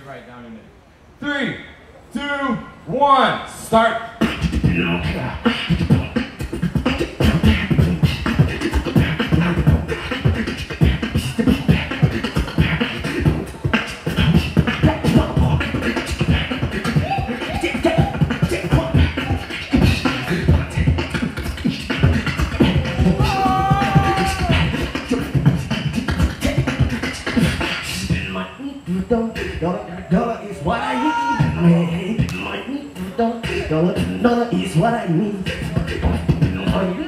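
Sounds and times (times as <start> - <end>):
beatboxing through a microphone: 3.8 - 37.0.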